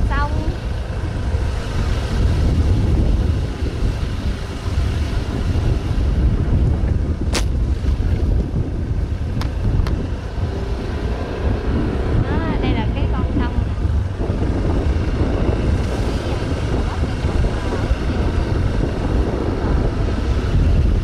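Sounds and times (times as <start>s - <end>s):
low vehicle rumble: 0.0s - 21.0s
wind buffeting microphone: 0.0s - 21.0s.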